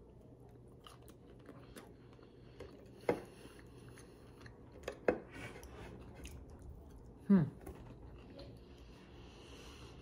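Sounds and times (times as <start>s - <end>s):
person chewing: 0.0s - 9.4s.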